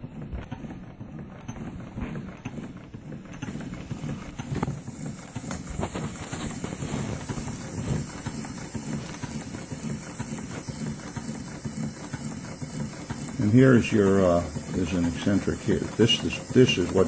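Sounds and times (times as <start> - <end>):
model steam engine running: 0.0 - 17.0.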